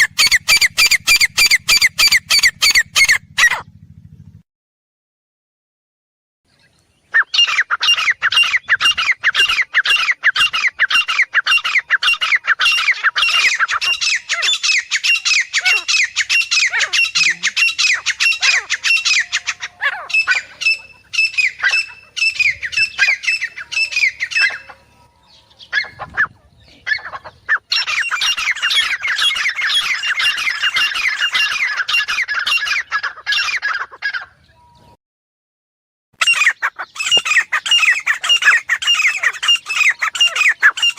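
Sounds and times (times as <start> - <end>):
francolin harsh repeated calls: 0.0 - 3.6, 7.1 - 34.4, 36.2 - 40.9.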